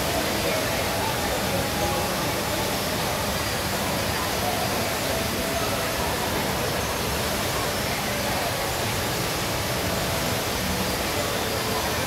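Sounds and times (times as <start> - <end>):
indoor waterfall rushing: 0.0 - 12.0.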